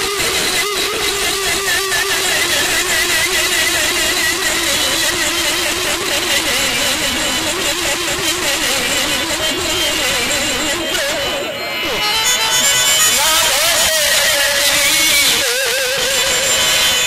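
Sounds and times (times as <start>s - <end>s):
amplified reed wind instrument: 0.0s - 17.0s.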